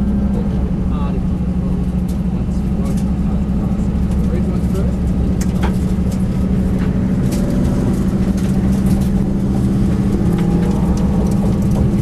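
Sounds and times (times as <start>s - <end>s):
race car engine running: 0.0s - 12.0s.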